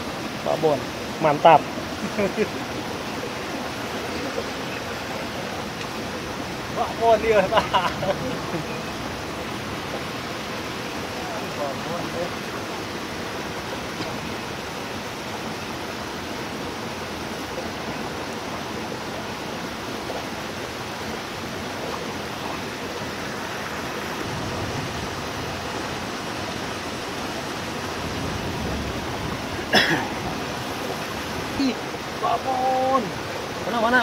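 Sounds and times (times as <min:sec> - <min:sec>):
rain falling: 0:00.0 - 0:34.0
rushing water: 0:00.0 - 0:34.0.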